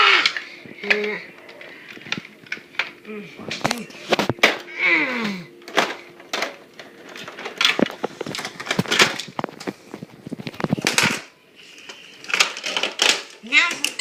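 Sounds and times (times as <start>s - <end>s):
toy parts clicking and knocking: 0.0s - 4.7s, 5.6s - 9.7s, 10.4s - 14.0s.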